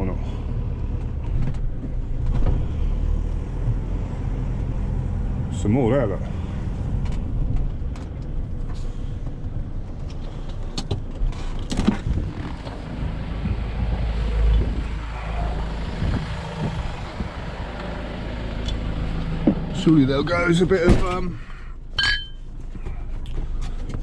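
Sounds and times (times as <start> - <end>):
van engine rumbling: 0.0 - 24.0.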